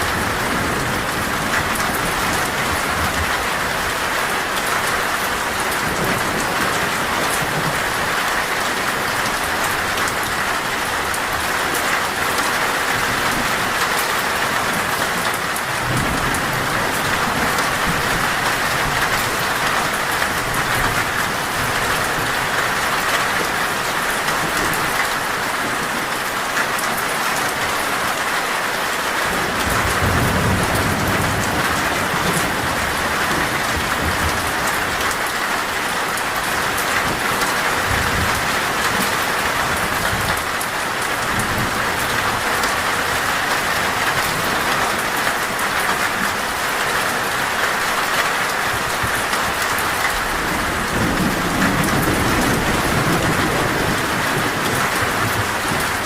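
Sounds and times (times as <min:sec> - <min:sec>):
thunder rumbling: 0:00.0 - 0:23.6, 0:29.3 - 0:45.0, 0:48.8 - 0:56.0
heavy rain on a metal roof: 0:00.0 - 0:56.0.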